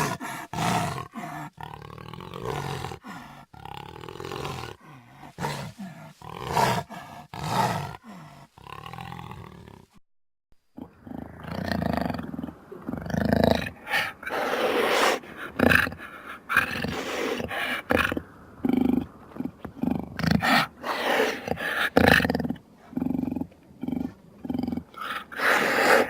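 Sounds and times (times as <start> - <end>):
dinosaur growls and roars: 0.0 - 10.0, 10.8 - 26.0.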